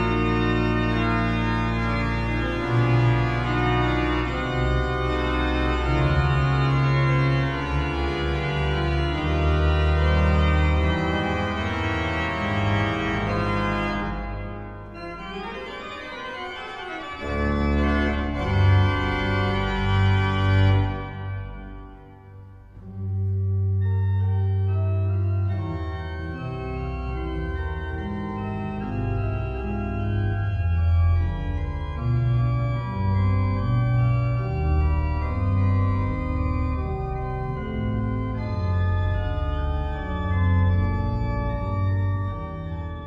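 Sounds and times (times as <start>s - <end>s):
organ chords: 0.0s - 43.0s.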